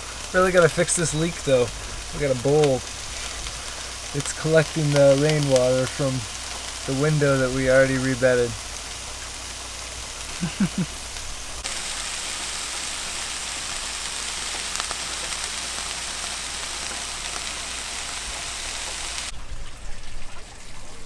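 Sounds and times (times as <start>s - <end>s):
vegetables sizzling in a pan: 0.0s - 19.3s.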